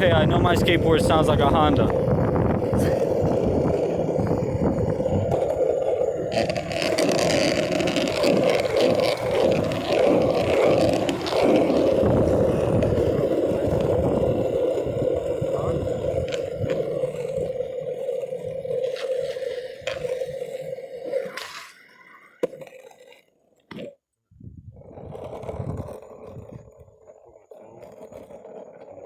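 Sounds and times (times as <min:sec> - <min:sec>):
longboard wheels rolling on pavement: 0:00.0 - 0:29.0.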